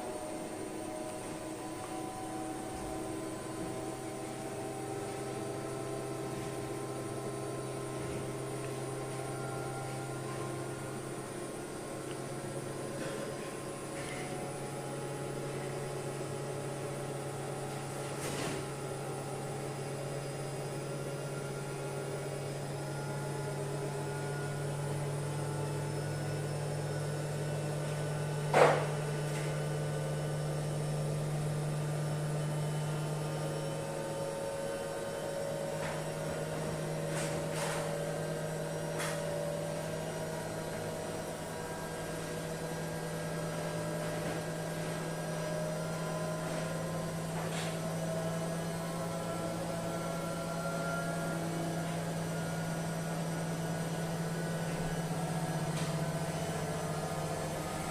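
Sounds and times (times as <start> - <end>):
faint motor whine: 0.0 - 57.9.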